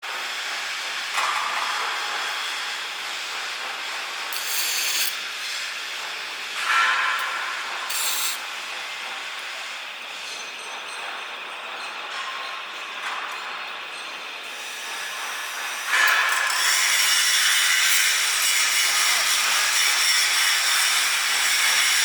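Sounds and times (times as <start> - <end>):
metal workshop din: 0.6 - 22.0.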